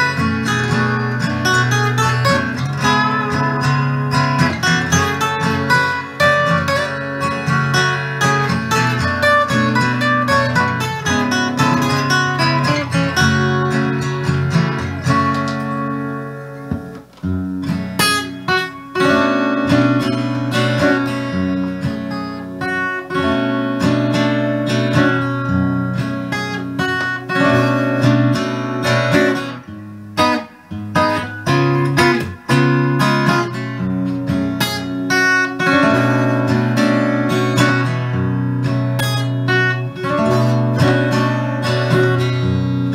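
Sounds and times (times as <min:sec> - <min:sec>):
acoustic guitar strumming: 0:00.0 - 0:42.9.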